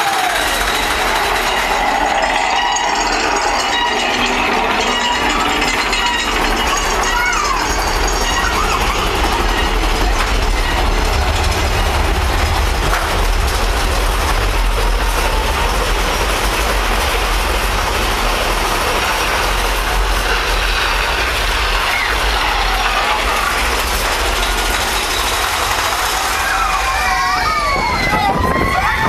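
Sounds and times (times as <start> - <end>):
roller coaster wheels rumbling: 0.0 - 29.0.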